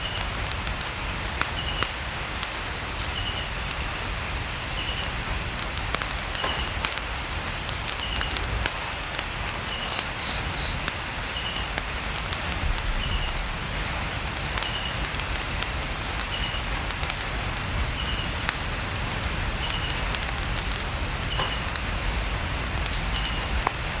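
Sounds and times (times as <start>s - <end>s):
campfire crackling: 0.0s - 24.0s
rain pattering on a tent roof: 0.0s - 24.0s.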